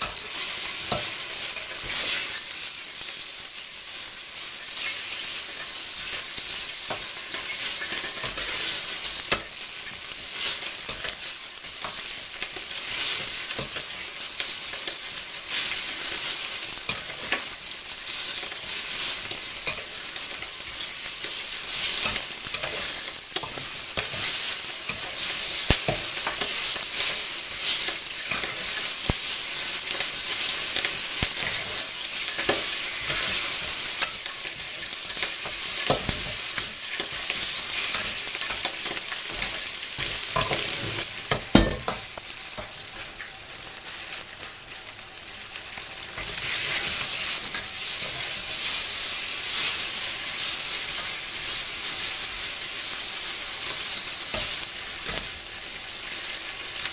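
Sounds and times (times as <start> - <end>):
meat sizzling in hot oil: 0.0 - 56.9.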